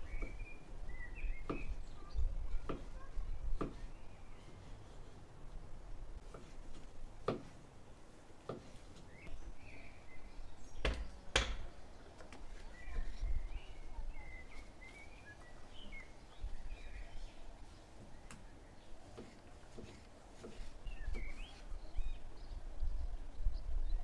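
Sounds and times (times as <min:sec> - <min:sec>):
birds chirping: 0:00.0 - 0:07.4, 0:08.0 - 0:24.0.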